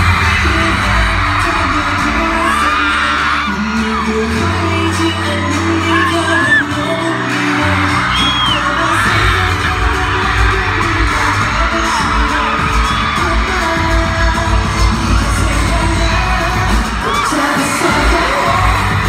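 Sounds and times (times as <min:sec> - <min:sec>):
fans screaming: 0:00.0 - 0:19.0
loud dance track with heavy bass: 0:00.0 - 0:19.0.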